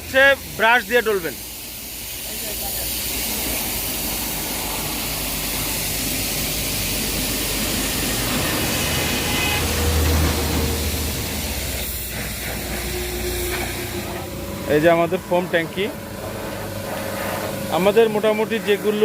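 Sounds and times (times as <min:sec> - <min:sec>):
car wash spray hissing: 0:00.0 - 0:19.0.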